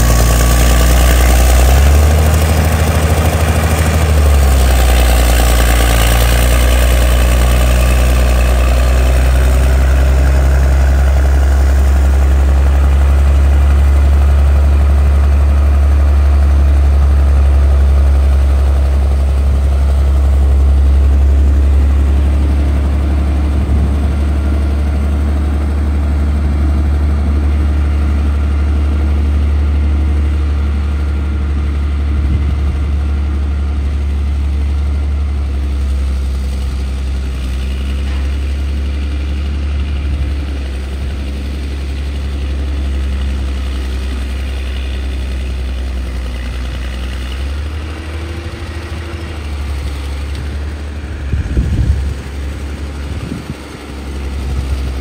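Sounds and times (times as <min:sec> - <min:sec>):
bulldozer diesel engine droning: 0:00.0 - 0:55.0
bulldozer track noise: 0:00.0 - 0:55.0.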